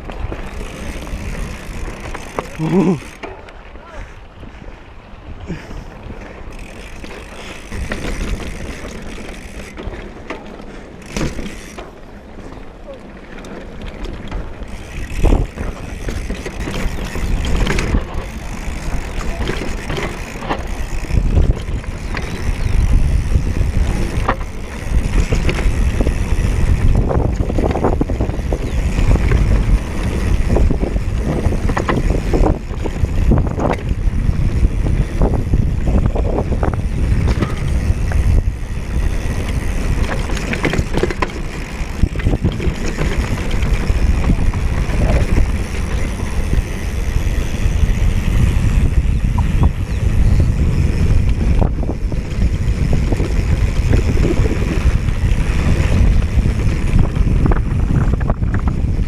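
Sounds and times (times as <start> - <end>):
bike knocking and rattling: 0.0 - 4.0, 5.5 - 59.0
wind buffeting microphone: 0.0 - 11.8, 13.8 - 59.0.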